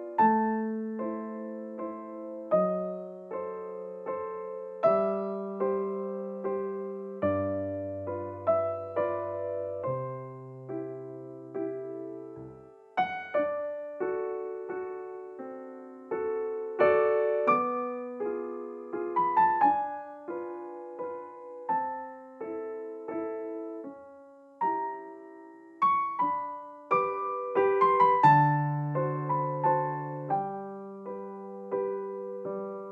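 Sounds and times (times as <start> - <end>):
gentle piano music: 0.0 - 32.9.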